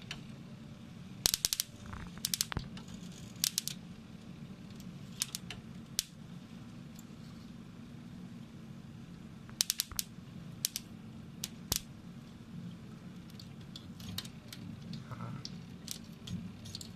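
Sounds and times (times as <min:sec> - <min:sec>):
low machine hum: 0:00.0 - 0:16.9
molten metal crackling and popping: 0:01.1 - 0:16.9.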